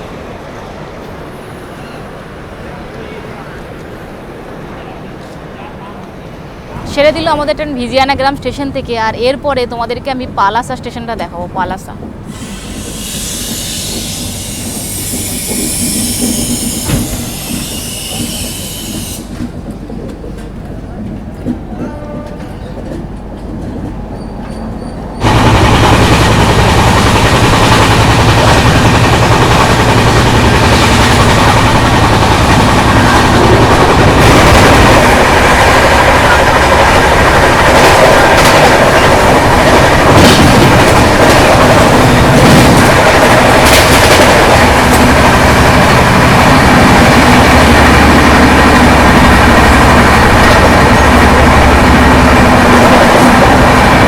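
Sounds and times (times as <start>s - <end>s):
train rushing along track: 0.0s - 54.0s.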